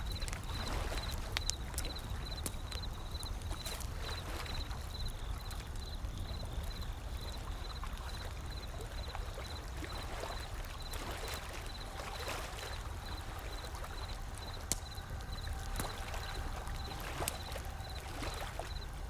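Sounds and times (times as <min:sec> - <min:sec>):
wood fire crackling: 0:00.0 - 0:08.4, 0:09.5 - 0:19.0
ocean waves: 0:00.0 - 0:19.0.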